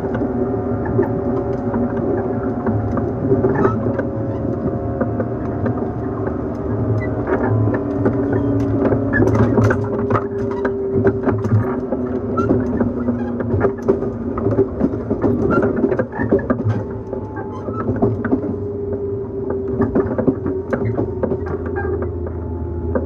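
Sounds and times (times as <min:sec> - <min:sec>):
train clicks and rattles: 0:00.0 - 0:23.0
train traction motors humming: 0:00.0 - 0:23.0.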